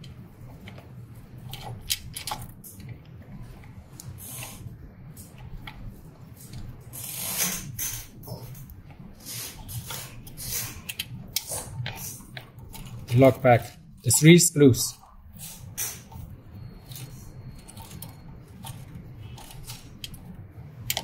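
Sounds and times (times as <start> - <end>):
rustles and crinkles: 0.0 - 21.0
steady low hum: 0.0 - 21.0.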